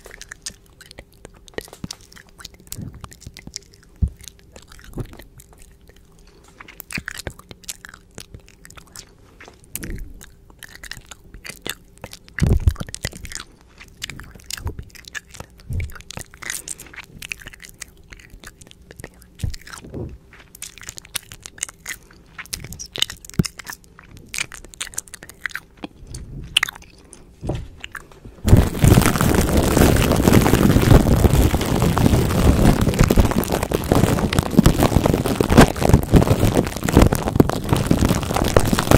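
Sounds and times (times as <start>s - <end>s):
wet mouth clicks and smacks: 0.0s - 38.9s.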